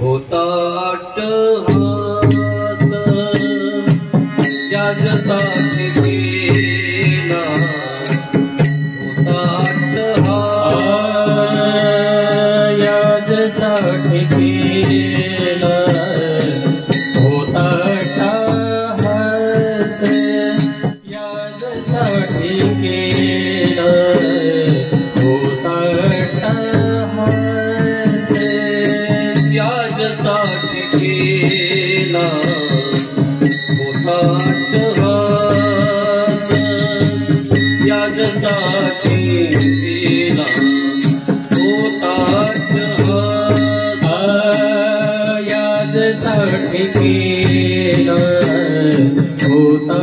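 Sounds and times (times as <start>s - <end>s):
man singing devotional song: 0.0s - 50.0s
small hand cymbals: 1.0s - 50.0s.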